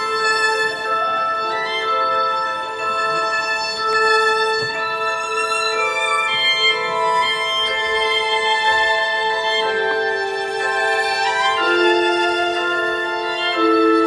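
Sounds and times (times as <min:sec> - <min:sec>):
slow instrumental music: 0:00.0 - 0:14.0.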